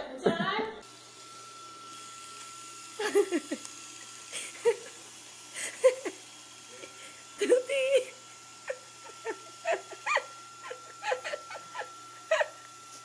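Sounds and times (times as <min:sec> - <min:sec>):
robot vacuum humming: 0:00.8 - 0:13.0.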